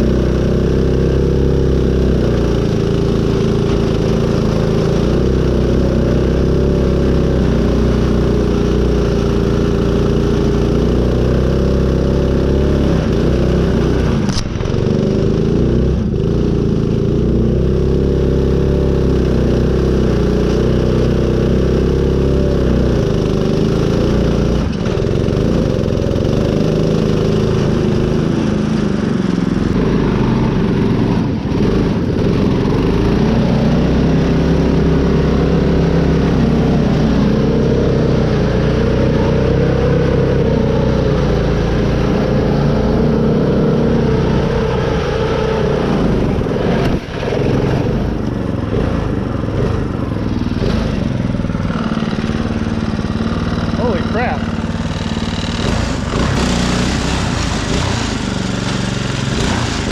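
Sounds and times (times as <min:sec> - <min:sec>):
mower engine running under load: 0:00.0 - 0:59.9.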